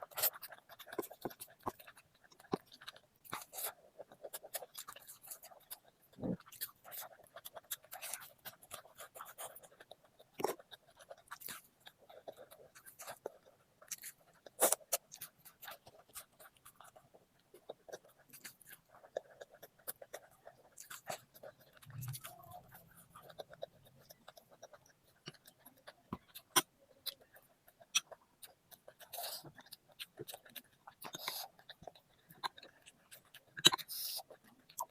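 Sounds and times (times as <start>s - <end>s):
person chewing with lip smacks: 0.0s - 34.9s.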